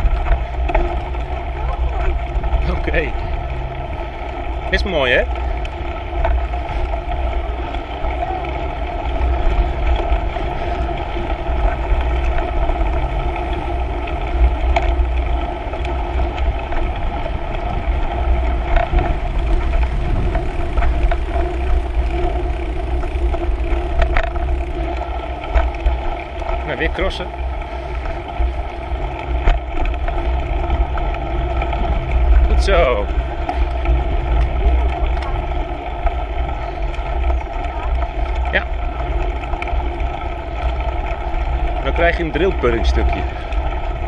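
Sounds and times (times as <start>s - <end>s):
tyre noise: 0.0s - 44.0s
wind rumble: 0.0s - 44.0s
bike knocking over bumps: 5.4s - 41.8s.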